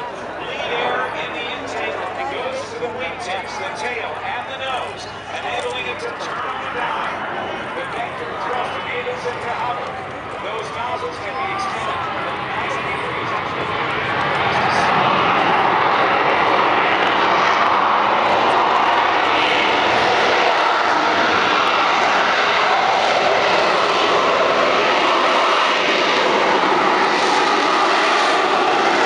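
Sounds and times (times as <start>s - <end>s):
jet engine roaring: 0.0s - 29.0s.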